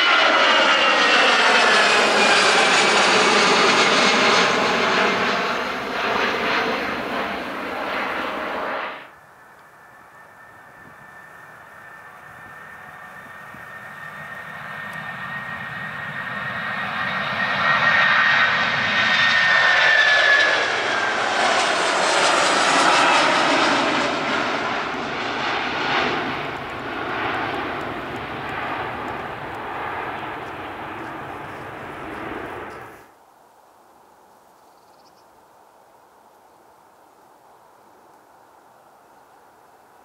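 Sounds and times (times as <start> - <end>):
jet engines roaring at take-off: 0.0 - 33.1.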